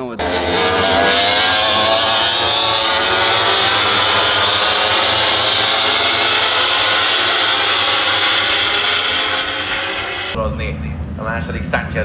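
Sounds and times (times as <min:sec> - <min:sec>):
race motorcycles at high revs: 0:00.2 - 0:10.4.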